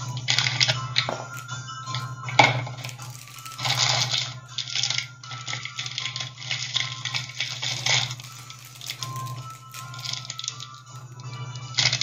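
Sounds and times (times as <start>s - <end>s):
plastic toys clicking and clattering: 0.2s - 12.0s.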